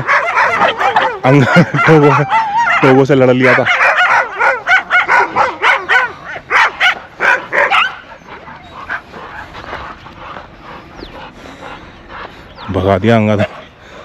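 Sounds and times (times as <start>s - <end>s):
dogs barking and yelping: 0.0s - 14.0s.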